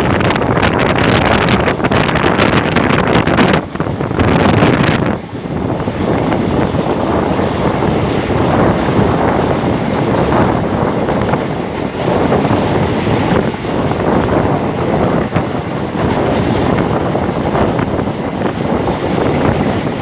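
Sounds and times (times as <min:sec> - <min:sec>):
train running noise: 0:00.0 - 0:20.0
wind buffeting the microphone: 0:00.0 - 0:20.0.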